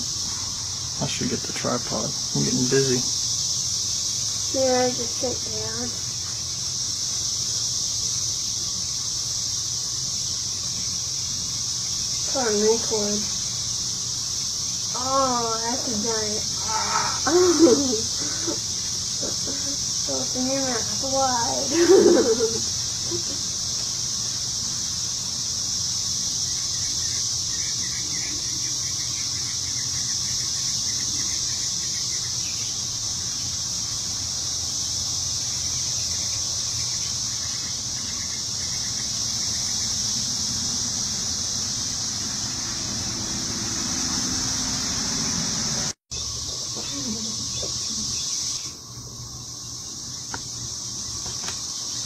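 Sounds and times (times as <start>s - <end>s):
insect chorus drone: 0.0s - 52.0s.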